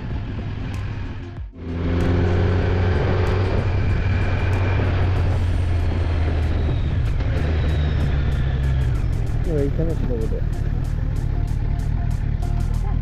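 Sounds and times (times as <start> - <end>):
wind noise: 0.0 - 10.5
motorcycle engine cruising: 0.0 - 13.0.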